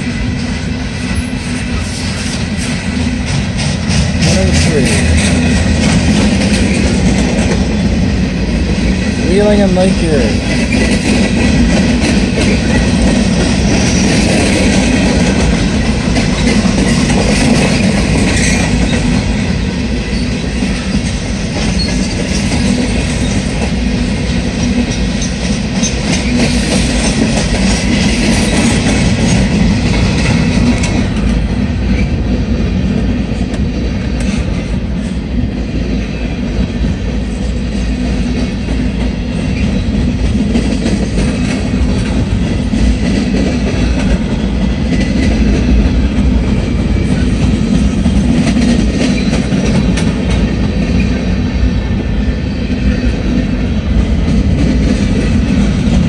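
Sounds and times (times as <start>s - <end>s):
freight train rumbling past: 0.0s - 56.0s
wheels clacking over rails: 0.4s - 34.9s, 35.8s - 51.4s.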